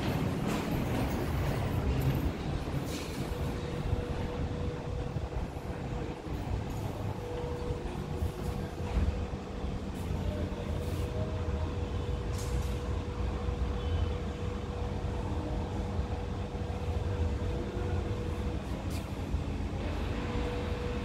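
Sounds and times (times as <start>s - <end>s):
steady hum: 0.0s - 21.0s
low mechanical rumble: 0.9s - 21.0s.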